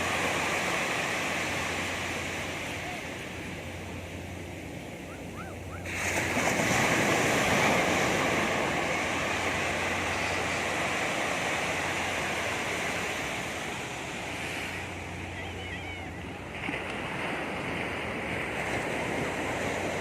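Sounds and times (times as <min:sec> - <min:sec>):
sea waves crashing: 0:00.0 - 0:20.0.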